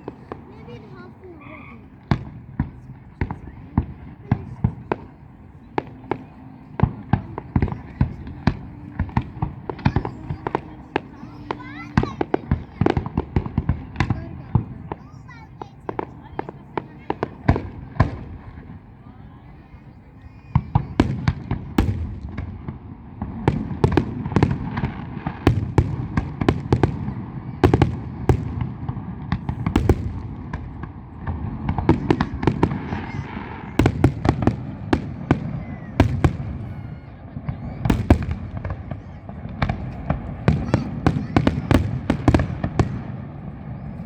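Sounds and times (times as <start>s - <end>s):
fireworks bangs and crackles: 0.0s - 44.0s
low rumble of fireworks bursts: 0.0s - 44.0s.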